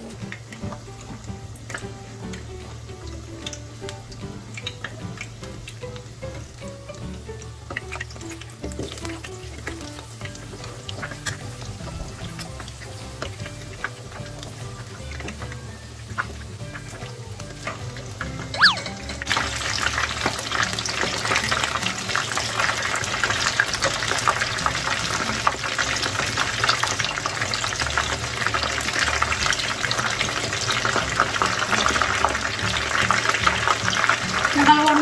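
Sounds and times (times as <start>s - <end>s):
chicken deep-frying in hot oil: 0.0s - 35.0s.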